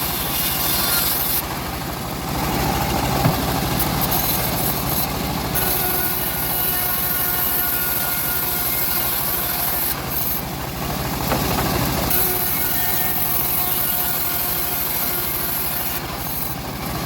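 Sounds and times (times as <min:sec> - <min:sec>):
bandsaw mill engine running: 0:00.0 - 0:17.0.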